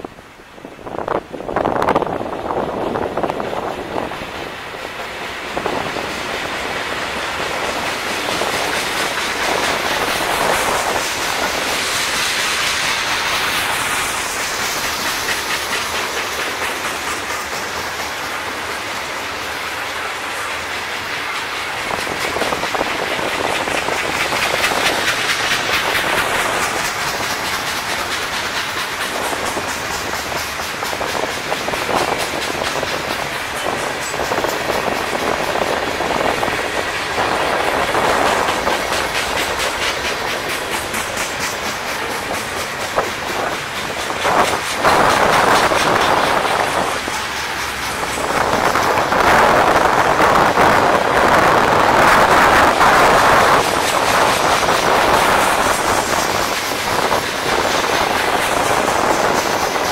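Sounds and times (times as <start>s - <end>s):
diesel locomotives passing: 0.0s - 59.9s
train wheel and rail noise: 0.0s - 59.9s
wheels clacking over rail joints: 1.1s - 59.9s.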